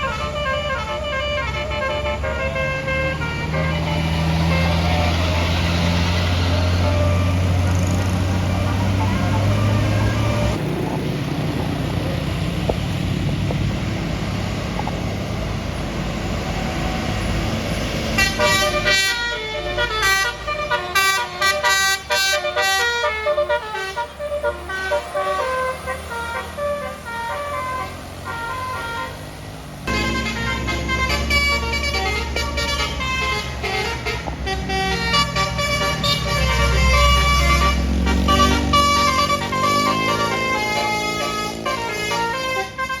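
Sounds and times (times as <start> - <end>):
multi-trumpet musical horn melody: 0.0 - 10.6, 18.0 - 29.3, 29.9 - 43.0
bus engine running: 0.0 - 43.0
road noise: 0.0 - 43.0.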